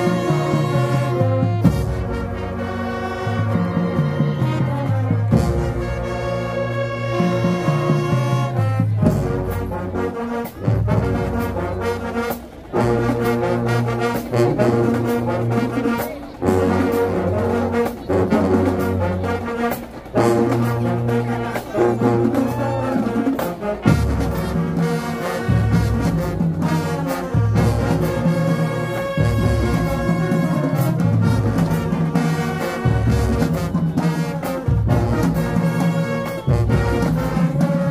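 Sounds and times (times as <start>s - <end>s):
marching band playing brass music: 0.0s - 37.9s.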